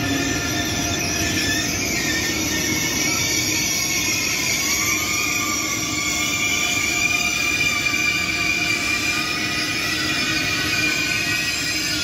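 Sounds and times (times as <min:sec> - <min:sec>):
low rumble of train cars: 0:00.0 - 0:12.0
train wheels squealing on rails: 0:00.0 - 0:12.0.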